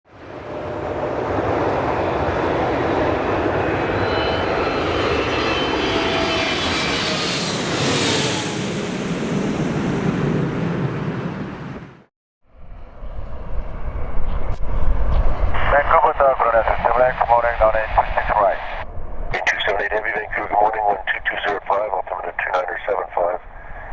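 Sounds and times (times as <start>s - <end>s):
jet aircraft passing low: 0.1s - 23.9s.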